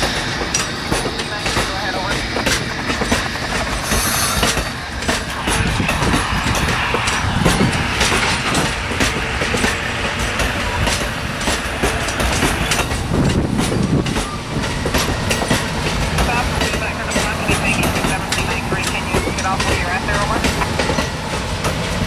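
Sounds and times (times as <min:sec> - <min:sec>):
train wheels rolling on rail: 0:00.0 - 0:22.0
wheels clicking over rail joints: 0:00.0 - 0:22.0.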